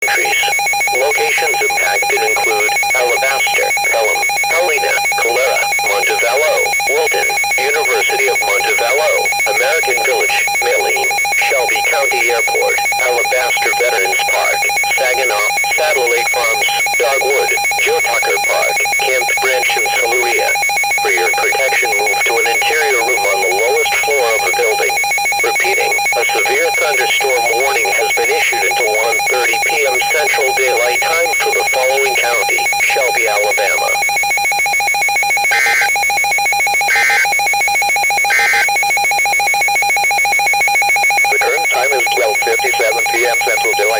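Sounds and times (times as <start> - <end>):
warbling voice-like message: 0.0 - 34.0, 35.5 - 35.9, 36.9 - 37.3, 38.3 - 38.7, 41.3 - 43.9
short data bursts: 0.0 - 43.9
steady electronic tones: 0.0 - 43.9.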